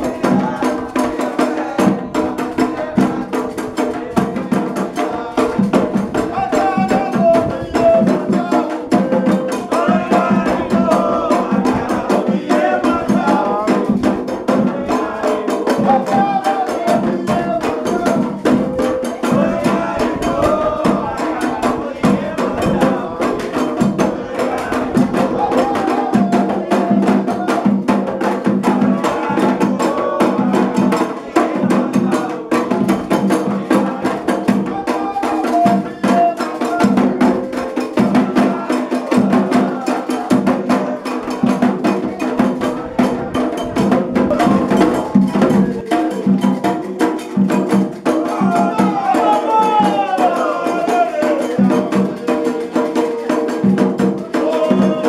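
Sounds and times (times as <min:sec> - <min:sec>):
hand drums: 0:00.0 - 0:55.0
voices singing: 0:00.0 - 0:55.0
wood block percussion: 0:00.0 - 0:55.0.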